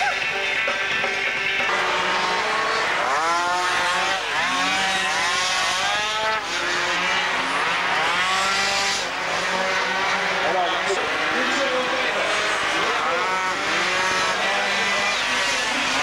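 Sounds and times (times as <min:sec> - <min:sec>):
racing scooter engines revving: 0:00.0 - 0:16.0.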